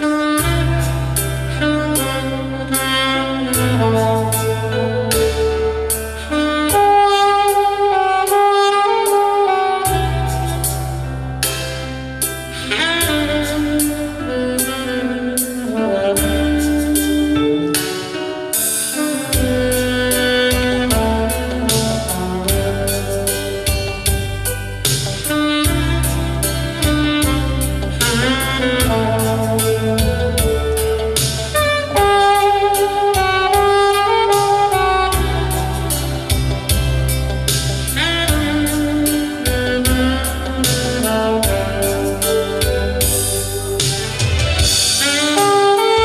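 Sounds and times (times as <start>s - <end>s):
backing track with steady beat: 0.0s - 46.0s
saxophone playing slow melody: 0.0s - 46.0s.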